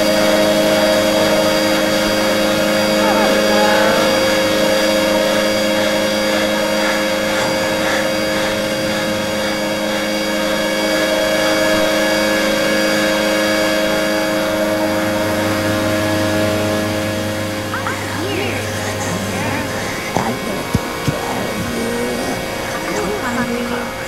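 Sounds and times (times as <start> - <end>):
loud droning hum: 0.0 - 24.0.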